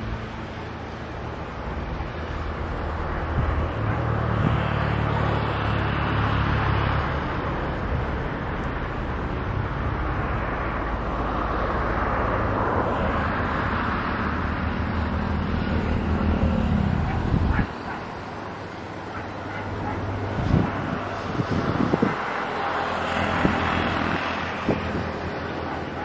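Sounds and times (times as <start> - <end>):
engine roar: 0.0 - 26.0.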